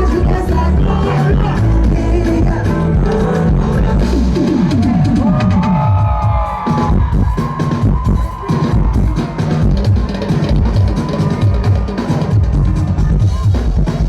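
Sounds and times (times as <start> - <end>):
drum and bass beat: 0.0 - 14.0
live concert music over a pa: 0.0 - 14.0.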